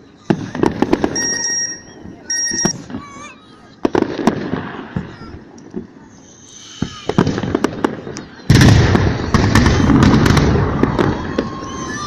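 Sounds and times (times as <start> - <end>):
crackling firework explosions: 0.0 - 12.0
fireworks bangs: 0.0 - 12.0.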